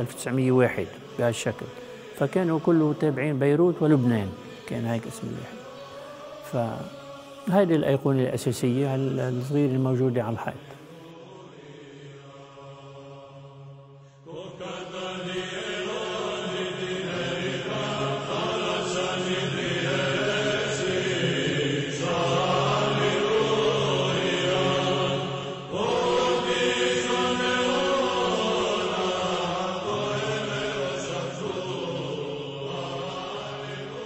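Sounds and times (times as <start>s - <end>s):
voices singing chant: 0.0s - 34.0s.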